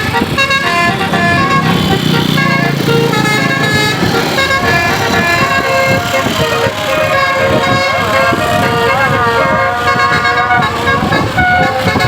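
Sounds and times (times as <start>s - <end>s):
musical air horn melody: 0.0s - 12.0s.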